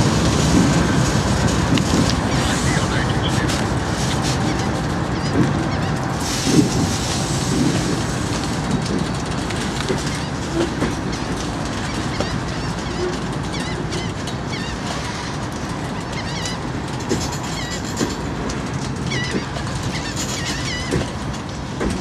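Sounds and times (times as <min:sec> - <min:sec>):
train wheels rumbling on rails: 0:00.0 - 0:22.0
wheels clicking over rail joints: 0:00.0 - 0:22.0.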